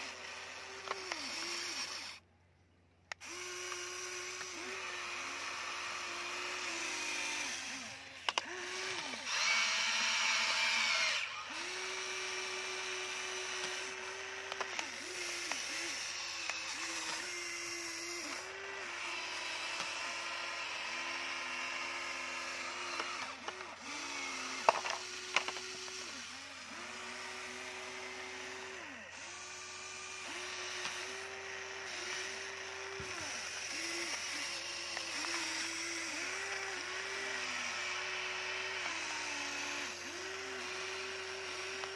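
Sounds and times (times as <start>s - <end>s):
toy excavator motors whining: 0.0s - 41.9s.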